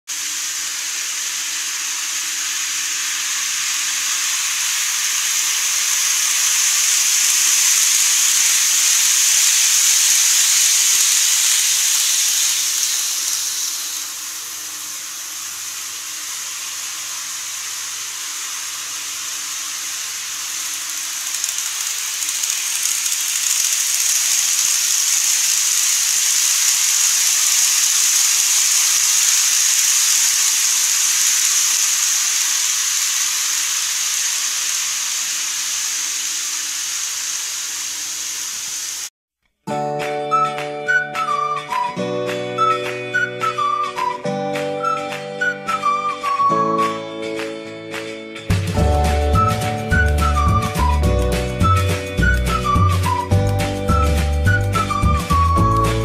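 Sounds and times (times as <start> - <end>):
model train running on track: 0.1 - 39.1, 40.9 - 44.1, 47.4 - 56.0.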